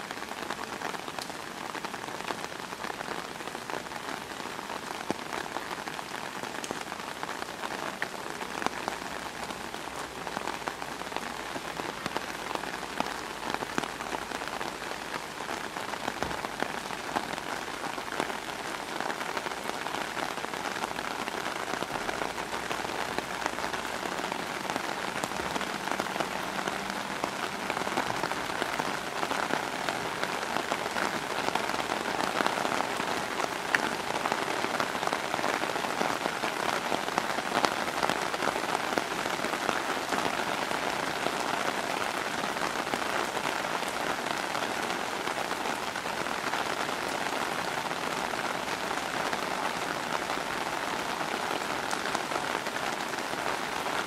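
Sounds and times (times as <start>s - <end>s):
steady rain on wet ground: 0.0s - 54.0s.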